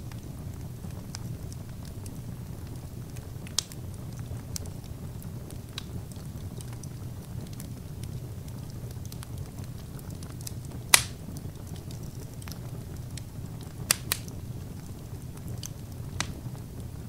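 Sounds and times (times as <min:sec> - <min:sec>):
low rumble of flames: 0:00.0 - 0:17.0
sharp pops from fire: 0:00.0 - 0:17.0
wood fire crackling: 0:00.0 - 0:17.0.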